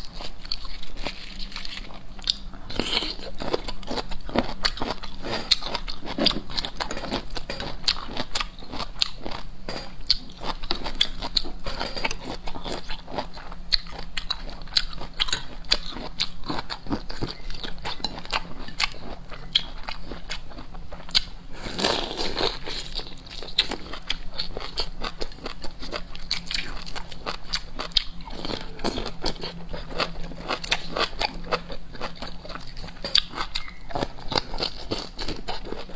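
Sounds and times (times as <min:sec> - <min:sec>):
seafood crunching and chewing: 0:00.0 - 0:35.9.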